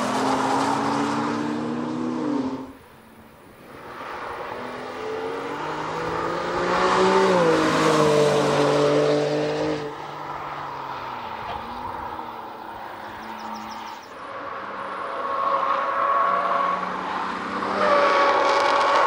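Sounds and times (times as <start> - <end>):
car engine passing at speed: 0.0 - 19.0
distant car engine: 0.0 - 19.0.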